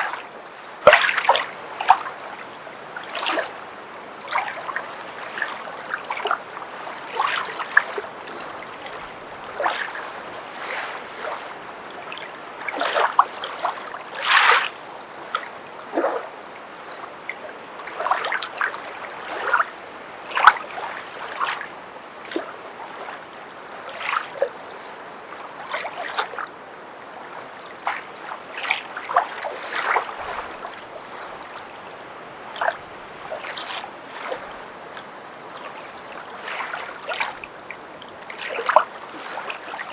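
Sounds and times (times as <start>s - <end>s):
footsteps wading through water: 0.0s - 24.7s, 25.4s - 39.9s.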